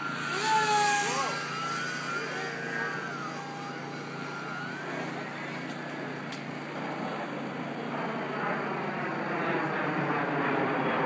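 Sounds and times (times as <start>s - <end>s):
model plane motor whining: 0.0s - 10.7s.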